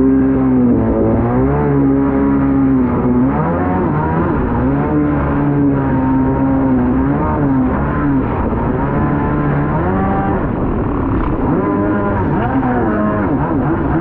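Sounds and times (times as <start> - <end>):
jet ski engine revving: 0.0 - 14.0.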